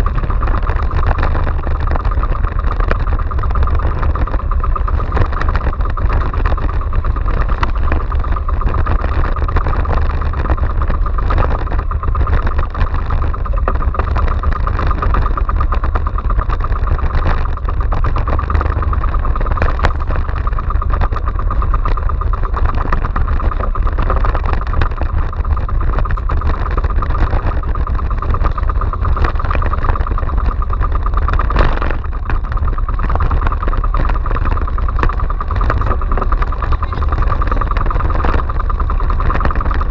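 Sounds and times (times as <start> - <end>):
boat engine running: 0.0 - 39.9
wind rumble on microphone: 0.0 - 39.9.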